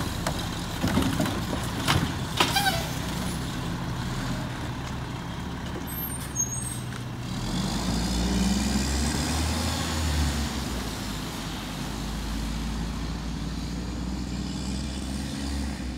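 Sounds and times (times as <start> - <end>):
truck diesel engine growling: 0.0 - 15.9.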